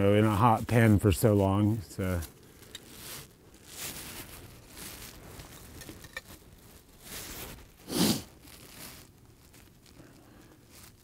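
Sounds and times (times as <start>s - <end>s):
rustling of camp gear: 0.0s - 11.0s.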